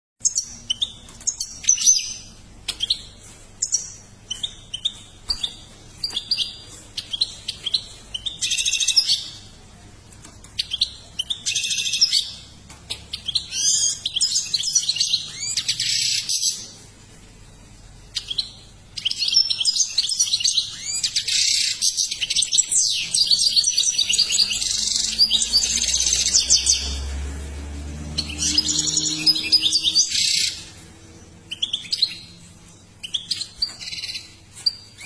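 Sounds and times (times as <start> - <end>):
bird chirping and trilling: 0.2 - 9.5, 10.6 - 16.8, 18.1 - 35.0.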